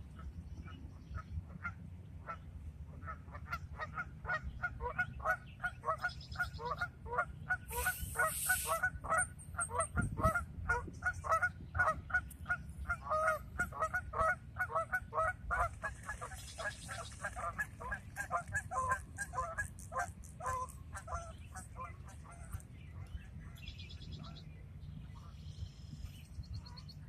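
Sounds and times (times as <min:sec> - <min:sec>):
geese honking: 0:01.2 - 0:23.1.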